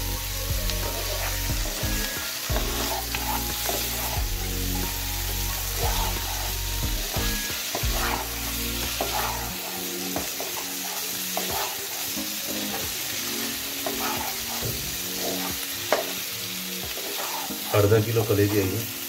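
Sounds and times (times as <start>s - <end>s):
food sizzling in a pan: 0.0s - 19.0s
spatula scraping pan: 0.6s - 18.3s.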